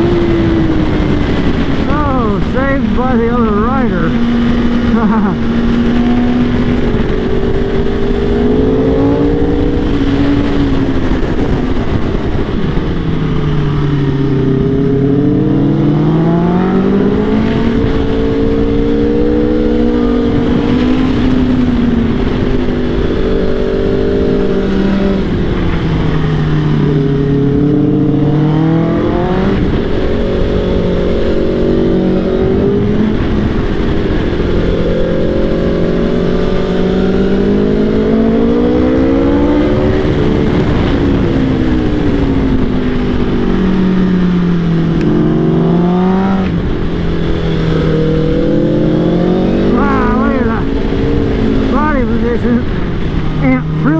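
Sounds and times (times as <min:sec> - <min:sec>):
motorcycle engine revving: 0:00.0 - 0:53.9
wind on microphone: 0:00.0 - 0:53.9.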